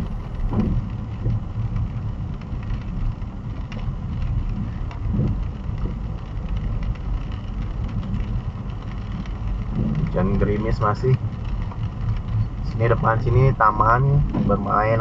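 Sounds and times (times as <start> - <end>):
engine and tyres on wet road: 0.0 - 15.0.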